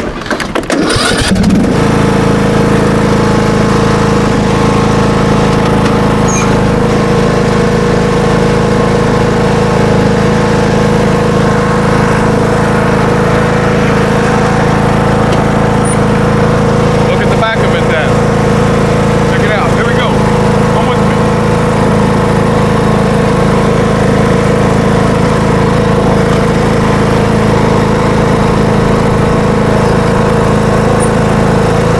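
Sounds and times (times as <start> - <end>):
lawn tractor engine running: 0.0 - 31.9.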